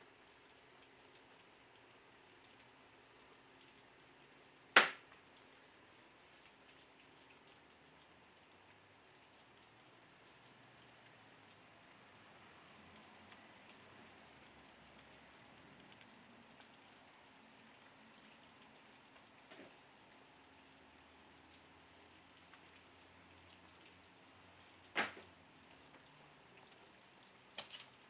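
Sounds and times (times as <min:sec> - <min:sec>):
faint hiss with tiny ticks: 0:00.0 - 0:28.0.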